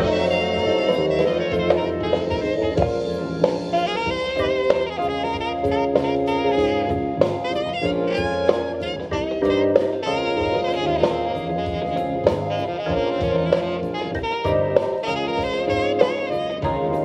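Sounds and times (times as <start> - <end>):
jazz band playing: 0.0 - 17.0
saxophone-led horn line: 0.0 - 17.0.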